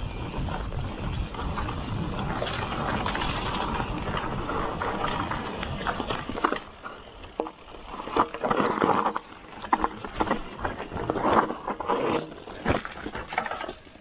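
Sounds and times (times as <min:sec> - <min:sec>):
bike rattling over rough ground: 0:00.0 - 0:14.0
bike tyres rumbling on dirt: 0:00.0 - 0:14.0.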